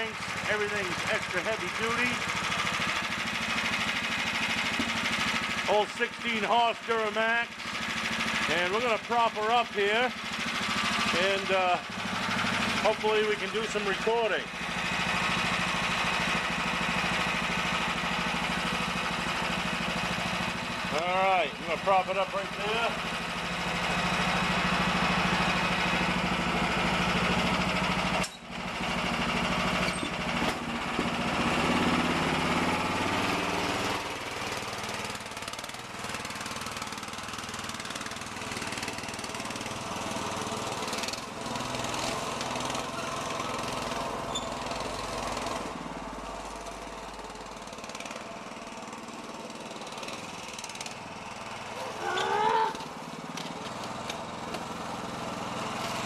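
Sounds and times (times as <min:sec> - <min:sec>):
small engine revving: 0:00.0 - 0:56.0.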